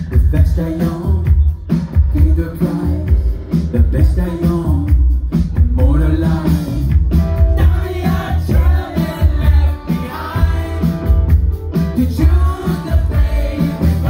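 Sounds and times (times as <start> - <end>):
bass and drum beat: 0.0 - 14.0
electric guitar: 0.0 - 14.0
keyboards: 0.0 - 14.0
man singing: 0.0 - 14.0.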